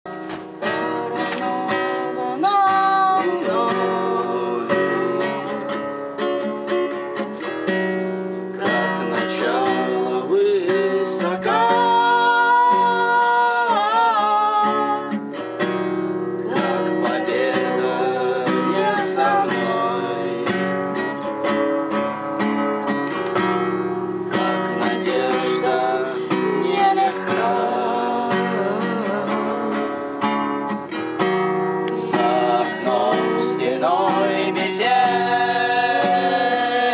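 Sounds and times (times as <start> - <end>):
acoustic guitar strumming: 0.1 - 36.9.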